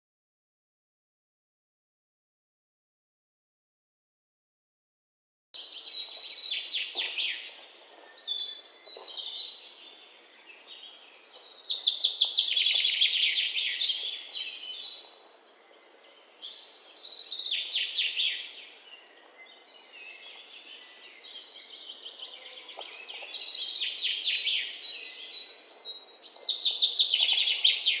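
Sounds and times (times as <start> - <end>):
songbirds chirping trills: 5.6 - 28.0.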